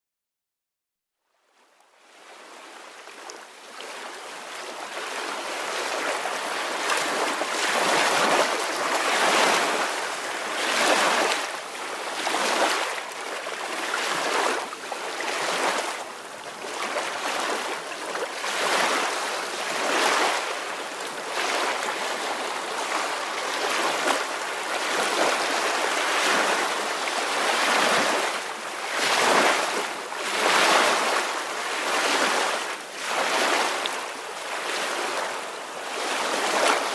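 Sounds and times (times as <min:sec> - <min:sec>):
ocean waves washing on shore: 0:01.4 - 0:36.9.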